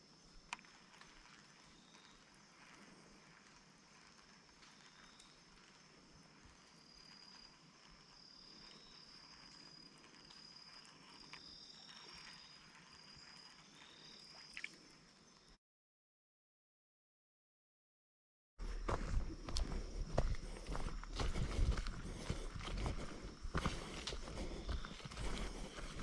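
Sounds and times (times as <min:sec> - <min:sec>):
insects trilling: 0:00.0 - 0:15.6, 0:18.6 - 0:26.0.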